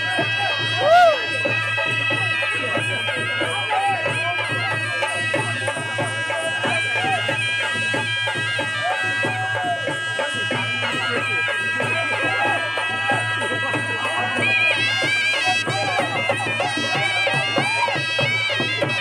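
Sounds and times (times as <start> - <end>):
crowd voices: 0.0 - 19.0
reedy pipe melody: 0.0 - 19.0.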